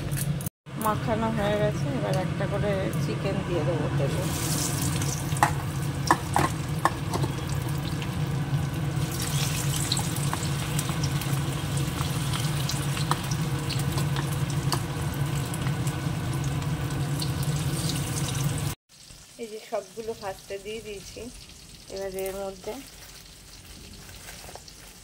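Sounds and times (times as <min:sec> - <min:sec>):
chicken deep-frying in oil: 0:00.3 - 0:25.0.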